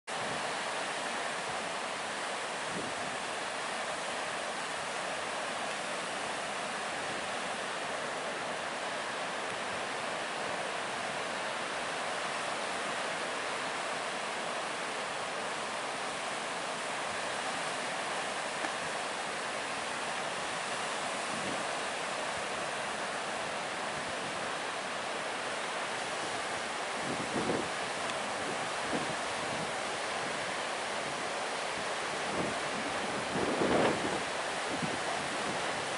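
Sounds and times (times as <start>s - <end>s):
ocean surf breaking: 0.2s - 35.9s.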